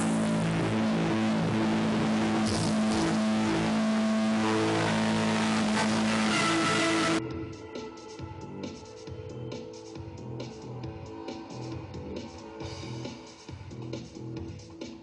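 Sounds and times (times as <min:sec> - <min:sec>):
droning music over loudspeakers: 0:00.0 - 0:15.0.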